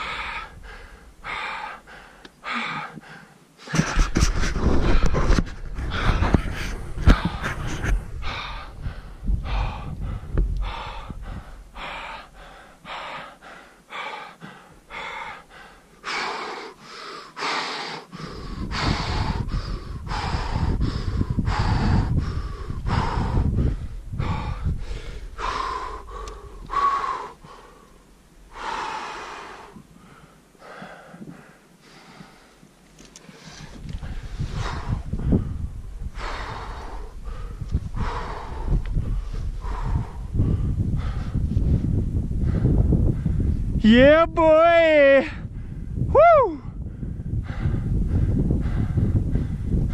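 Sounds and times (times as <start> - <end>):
person breathing hard: 0.0 - 43.7, 45.4 - 49.9.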